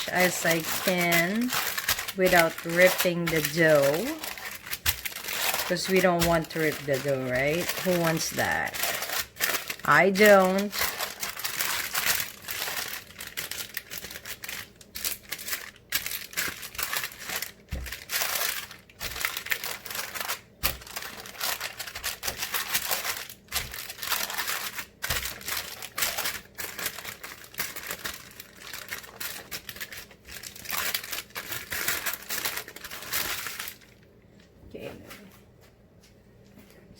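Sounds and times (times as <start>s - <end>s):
crinkling dough in oiled pan: 0.0s - 34.1s.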